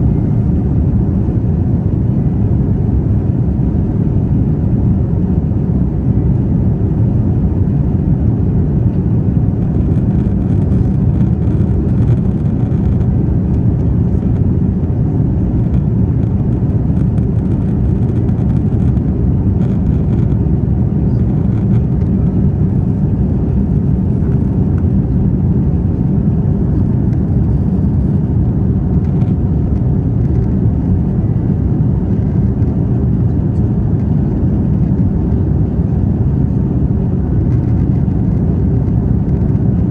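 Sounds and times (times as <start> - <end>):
jet airliner cabin rumble: 0.0 - 39.9.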